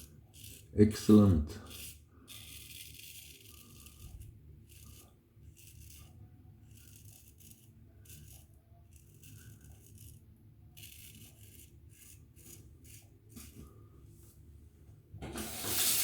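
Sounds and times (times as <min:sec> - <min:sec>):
razor scraping stubble: 0:00.0 - 0:13.7.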